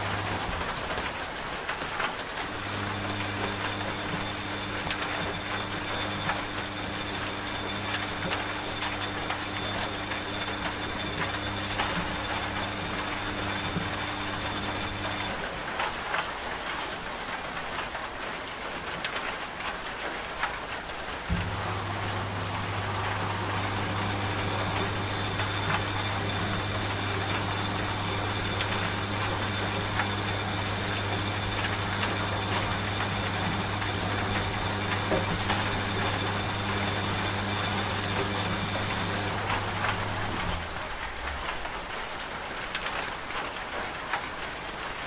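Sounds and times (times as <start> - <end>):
washing machine motor hum: 0.0 - 16.2, 21.2 - 42.2
rain pattering: 0.0 - 45.0.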